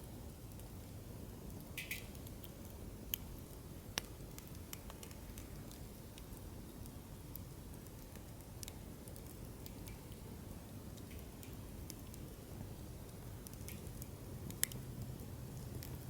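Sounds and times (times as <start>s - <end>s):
campfire crackling and popping: 0.3s - 16.0s.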